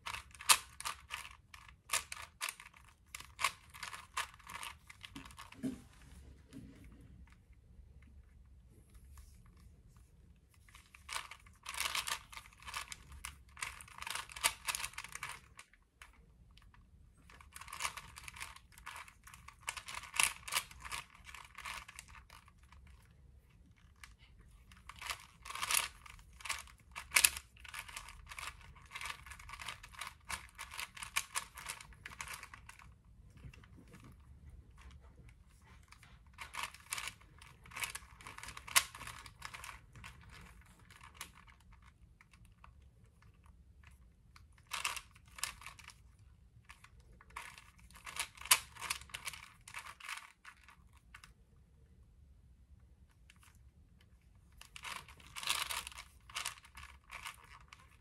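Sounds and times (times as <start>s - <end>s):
puzzle cube clacking turns: 0.0s - 6.0s, 10.5s - 51.3s, 54.4s - 58.0s.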